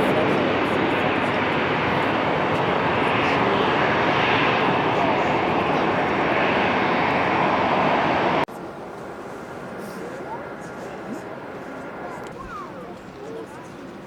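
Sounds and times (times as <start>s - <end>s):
jet airliner engines passing: 0.0s - 14.0s.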